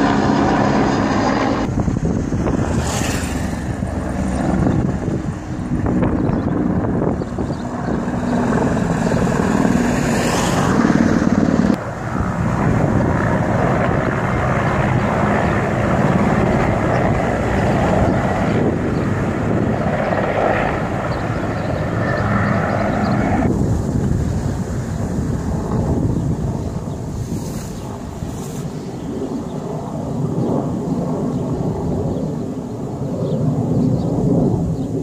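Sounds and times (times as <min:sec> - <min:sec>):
helicopter flying past: 0:00.0 - 0:35.0.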